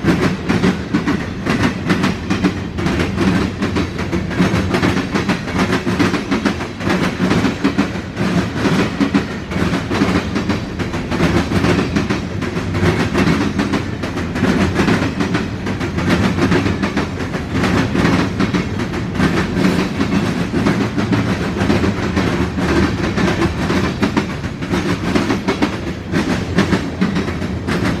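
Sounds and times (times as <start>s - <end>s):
freight train rumbling past: 0.0s - 28.0s
wheels clicking over rail joints: 0.0s - 28.0s.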